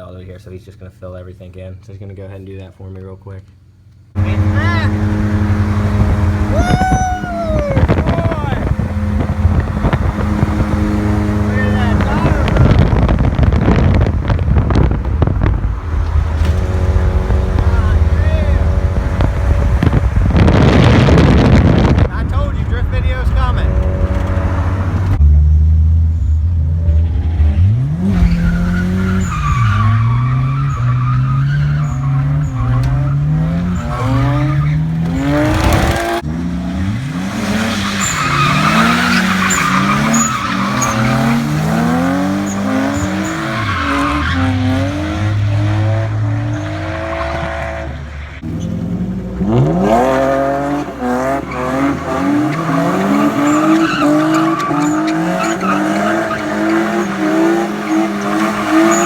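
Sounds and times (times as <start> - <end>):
tyres squealing and skidding: 3.7 - 25.2, 26.2 - 49.0, 49.7 - 59.0
car engine revving hard: 4.2 - 59.0.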